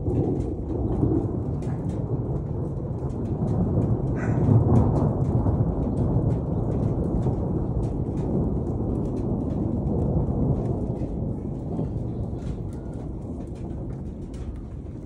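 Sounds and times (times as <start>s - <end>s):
raindrop ticks: 0.0s - 15.0s
thunder rumbling: 0.0s - 15.0s.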